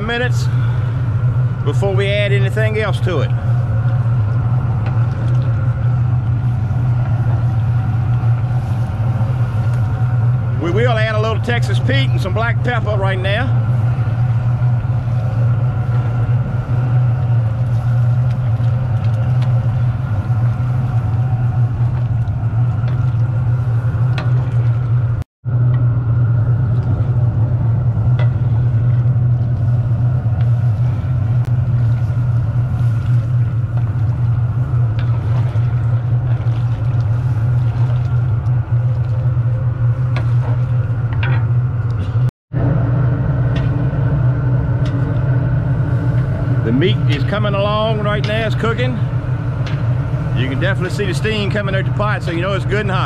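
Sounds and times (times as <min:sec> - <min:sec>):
gas burners rumbling: 0:00.0 - 0:53.0.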